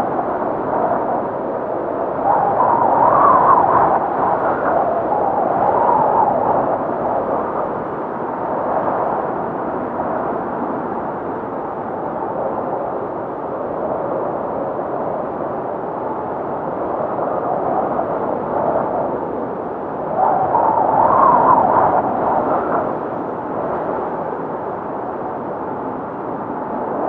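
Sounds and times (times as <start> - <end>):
blizzard wind howling: 0.0 - 27.0.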